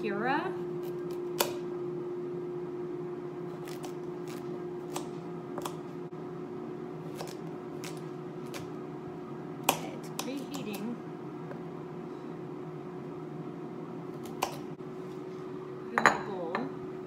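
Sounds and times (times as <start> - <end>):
air fryer humming: 0.0 - 17.0.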